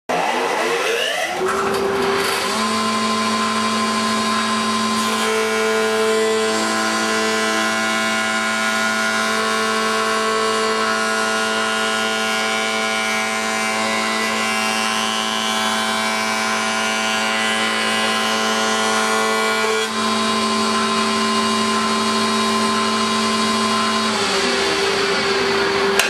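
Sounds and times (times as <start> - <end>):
woodworking planer running: 0.1 - 26.0.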